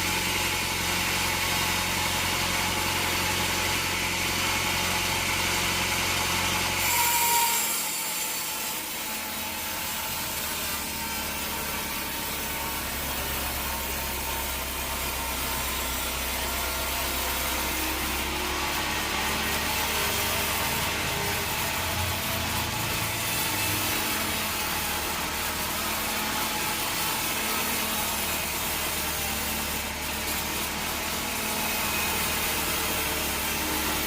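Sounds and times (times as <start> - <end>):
sawmill machinery droning: 0.0 - 34.0.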